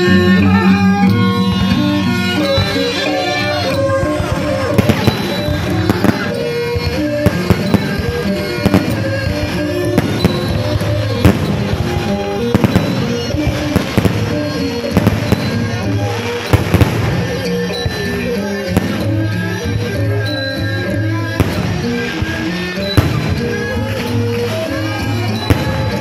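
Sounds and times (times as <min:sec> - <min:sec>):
loud music over sound system: 0:00.0 - 0:26.0
fireworks bangs: 0:03.8 - 0:20.5, 0:21.2 - 0:26.0.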